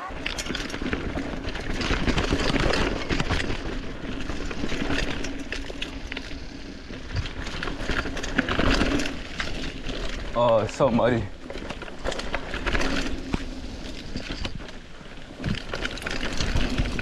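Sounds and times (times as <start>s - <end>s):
bike rattling over rough ground: 0.0s - 17.0s
bike tyres on mud: 0.0s - 17.0s.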